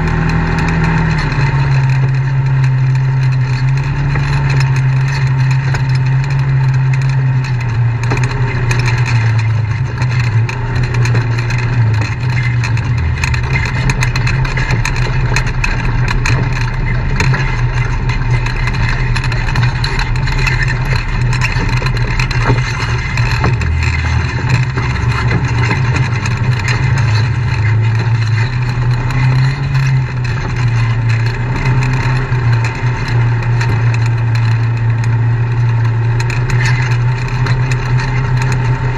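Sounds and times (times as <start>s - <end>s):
rattles and knocks: 0.0s - 38.9s
vehicle engine running: 0.0s - 38.9s.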